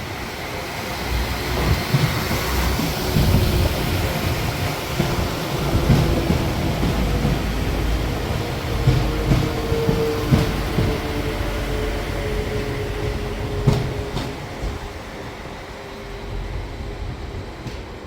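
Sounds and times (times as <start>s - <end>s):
train engine droning: 0.0s - 18.0s.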